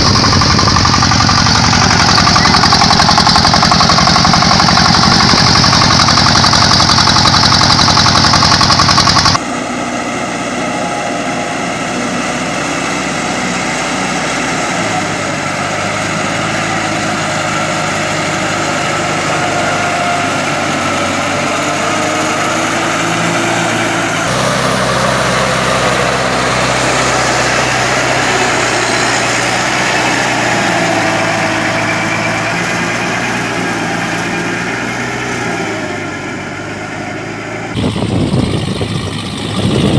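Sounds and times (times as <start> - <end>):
diesel tractor engines running: 0.0 - 39.9.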